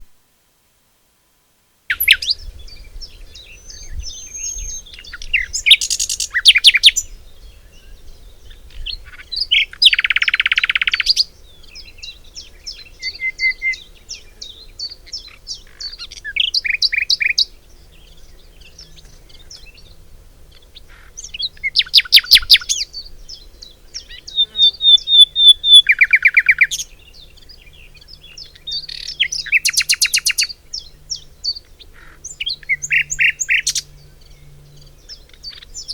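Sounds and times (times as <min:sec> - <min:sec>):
songbirds chirping: 0:01.8 - 0:35.9.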